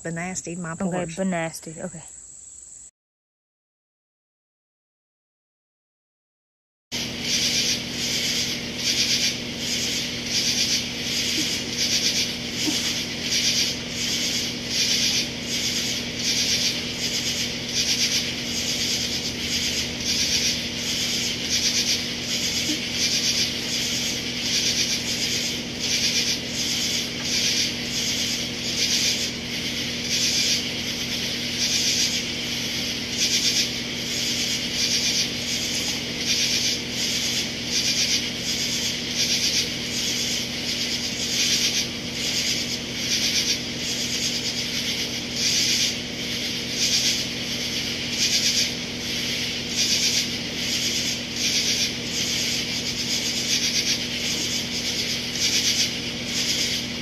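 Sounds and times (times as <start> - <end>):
katydids rasping: 0.0 - 2.1, 7.0 - 57.0
steady low hum: 0.0 - 2.1, 7.0 - 57.0.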